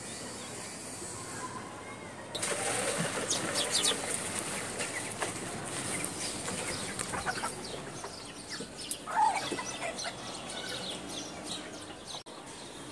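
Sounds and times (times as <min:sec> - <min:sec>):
birds chirping: 0:02.4 - 0:12.9.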